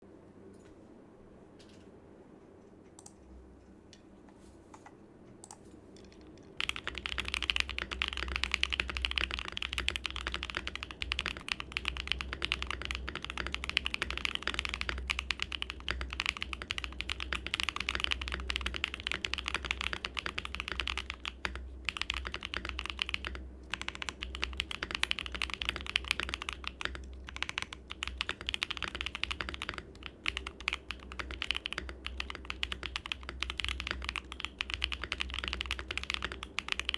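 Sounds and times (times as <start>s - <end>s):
fast typing on mechanical keyboard: 6.6s - 36.9s.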